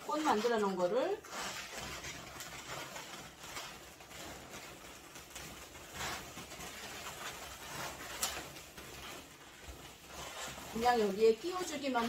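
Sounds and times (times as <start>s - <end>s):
balloons rubbing and rustling: 0.0s - 12.0s.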